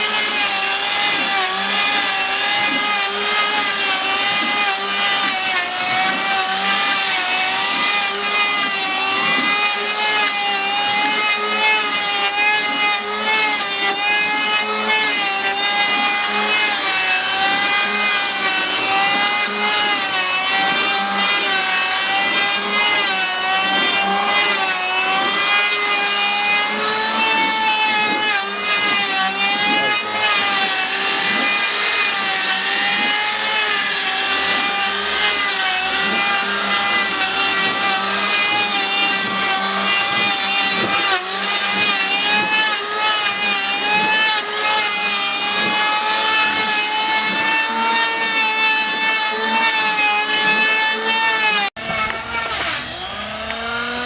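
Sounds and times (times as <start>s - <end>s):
power tool motor whining: 0.0s - 54.0s.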